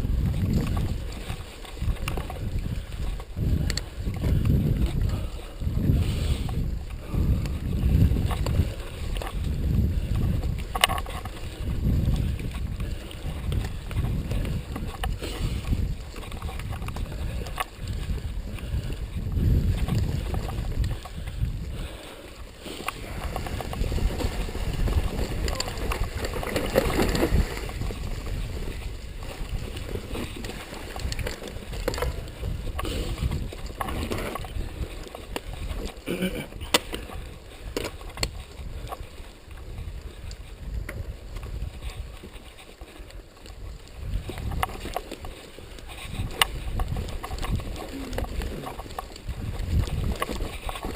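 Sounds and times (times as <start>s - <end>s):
bike clicks and rattles: 0.0s - 50.9s
wind buffeting microphone: 0.0s - 50.9s.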